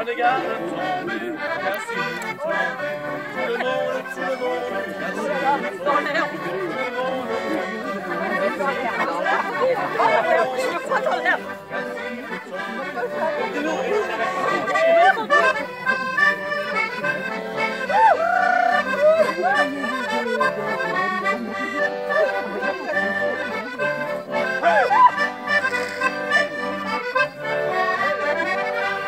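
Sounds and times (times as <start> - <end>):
accordion dance tune: 0.0 - 29.0.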